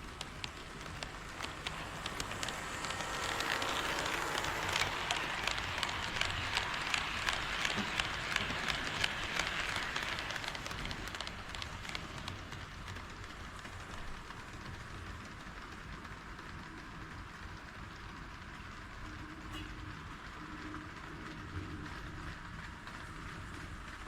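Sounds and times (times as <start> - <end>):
model train wheels clicking on rails: 0.0 - 24.0.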